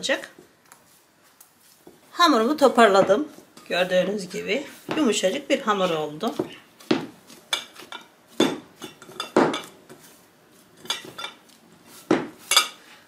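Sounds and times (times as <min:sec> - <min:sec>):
dough kneaded in glass bowl: 0:00.0 - 0:12.9.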